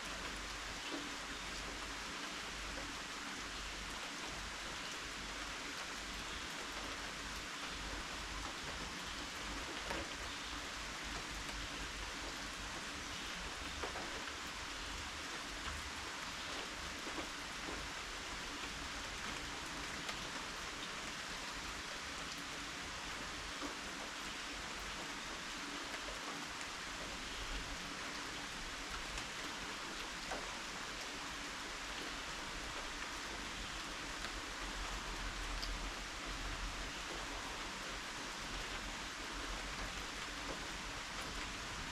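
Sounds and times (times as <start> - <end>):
raindrops pattering on surfaces: 0.0 - 41.9
steady rain falling: 0.0 - 41.9.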